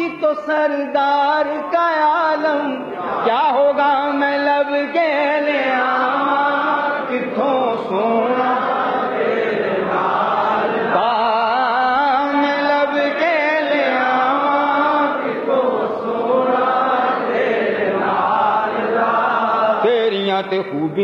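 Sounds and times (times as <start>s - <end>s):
man singing with vibrato: 0.0s - 21.0s.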